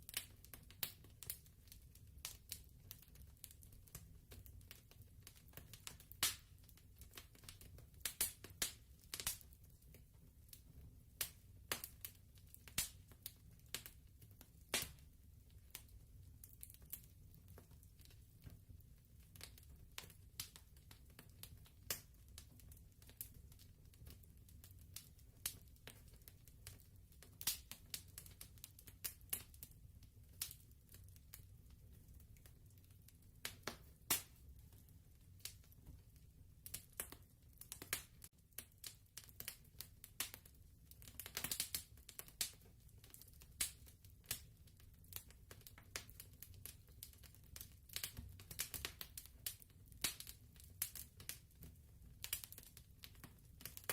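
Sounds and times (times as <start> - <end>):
fireplace crackling and popping: 0.0 - 53.9.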